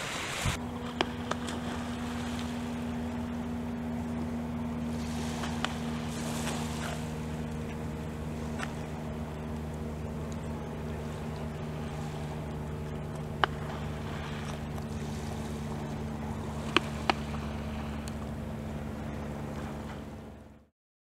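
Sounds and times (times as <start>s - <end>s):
boat engine droning: 0.0s - 20.7s.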